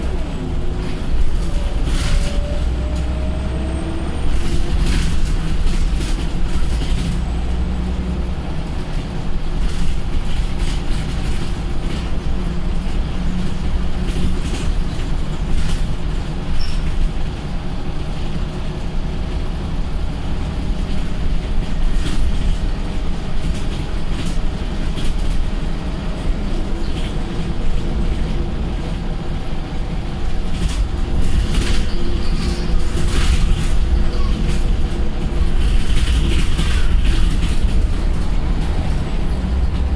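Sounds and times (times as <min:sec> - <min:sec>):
bus engine drone: 0:00.0 - 0:39.9
road rumble: 0:00.0 - 0:39.9.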